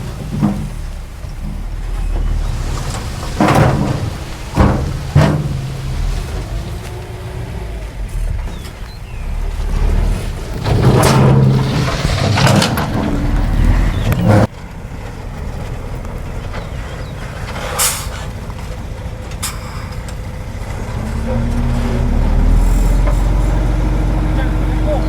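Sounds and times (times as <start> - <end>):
diesel engines of heavy machinery: 0.0 - 25.0.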